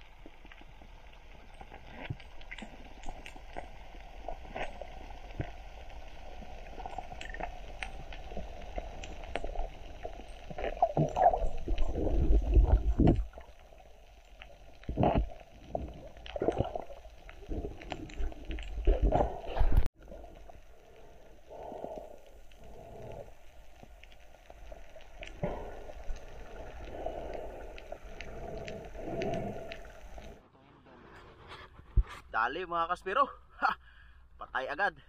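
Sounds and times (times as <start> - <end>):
underwater wash of water: 0.0 - 30.4
water gurgling bursts: 0.0 - 30.4.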